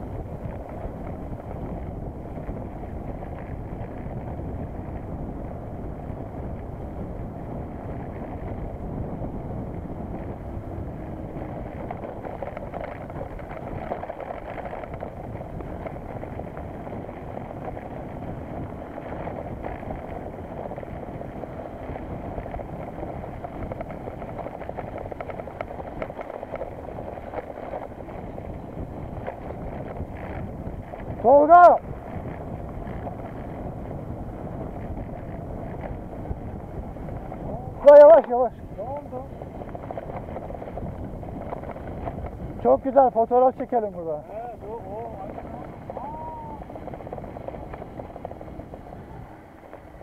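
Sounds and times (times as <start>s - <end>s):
bike rattling: 0.0s - 50.0s
wind rushing over microphone: 0.0s - 50.0s.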